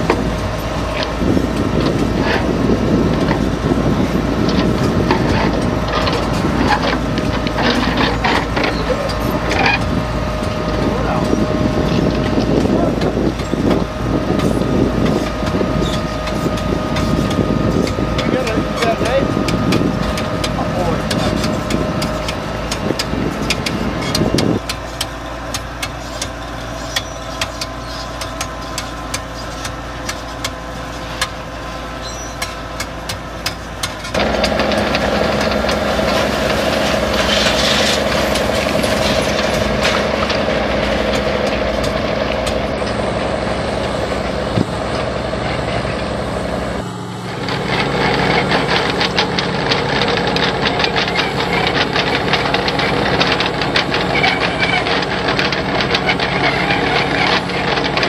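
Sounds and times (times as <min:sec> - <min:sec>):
heavy diesel engine running: 0:00.0 - 0:58.0
sharp clicks and rattles: 0:00.0 - 0:58.0.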